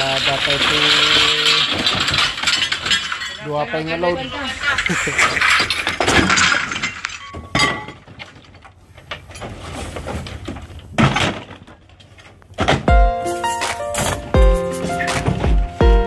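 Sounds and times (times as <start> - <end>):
debris crashing into dumpster: 0.0 - 16.0
debris rattling: 0.0 - 16.0.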